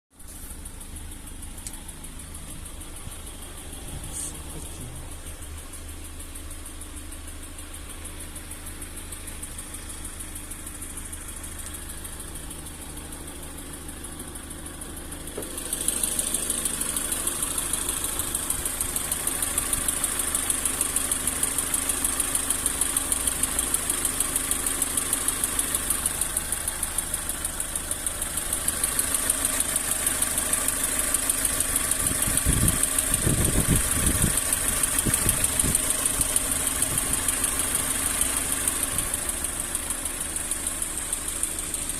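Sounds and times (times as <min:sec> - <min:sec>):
car engine idling with metallic ticking: 0:00.1 - 0:41.9.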